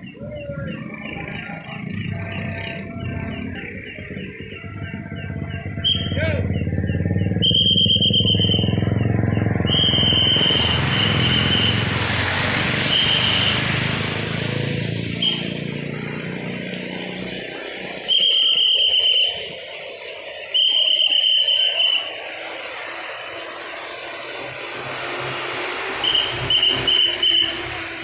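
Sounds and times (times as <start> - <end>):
whistle blasts: 0.0 - 16.3, 17.6 - 28.0
passing traffic engines: 0.0 - 28.0.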